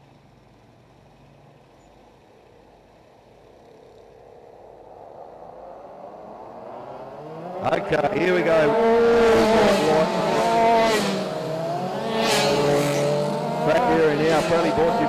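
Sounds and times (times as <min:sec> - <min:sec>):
kart engines approaching: 0:00.0 - 0:15.0.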